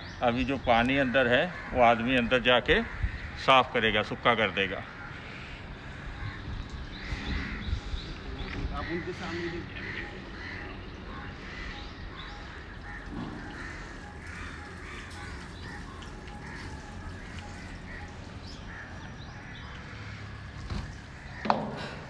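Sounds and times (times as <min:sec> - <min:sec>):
birds calling and chirping: 0:00.0 - 0:22.0.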